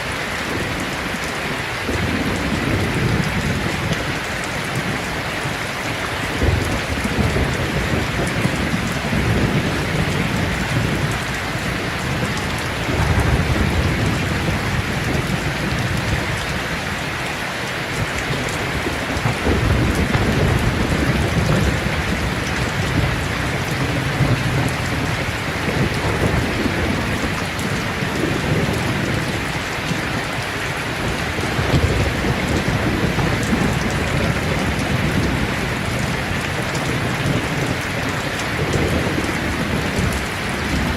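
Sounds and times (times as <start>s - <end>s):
heavy rain on a tin roof: 0.0s - 40.9s
rolling thunder: 0.4s - 17.1s, 17.8s - 40.9s.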